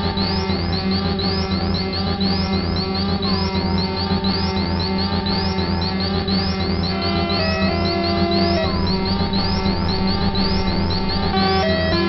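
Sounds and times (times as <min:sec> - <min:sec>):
low synthesizer drone: 0:00.0 - 0:12.0
high rising synth chirps: 0:00.3 - 0:12.0
synth tone sliding downward: 0:02.3 - 0:12.0.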